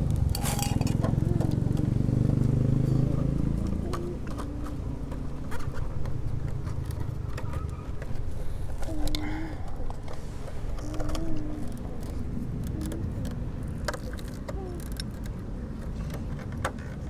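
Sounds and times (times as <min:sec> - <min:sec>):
vehicle engine running: 0:00.0 - 0:14.2
metallic clicks and scrapes: 0:00.1 - 0:01.9, 0:03.6 - 0:17.0.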